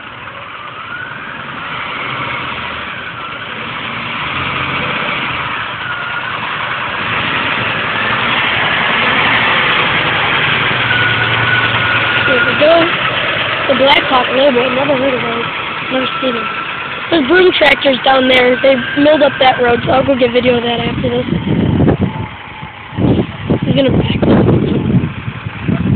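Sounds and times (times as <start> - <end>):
diesel truck engine running: 0.0 - 25.9.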